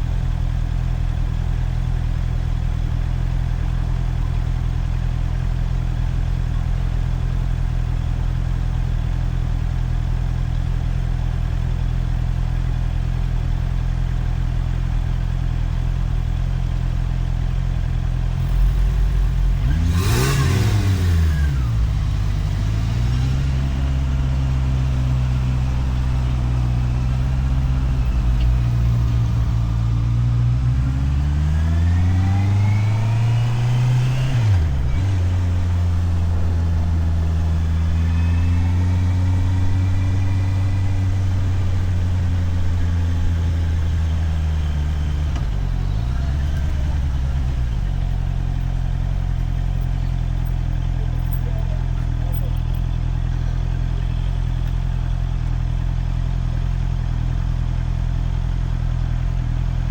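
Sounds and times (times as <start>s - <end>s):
motorcycle engine idling: 0.0s - 59.9s
motorcycle accelerating: 3.1s - 59.9s.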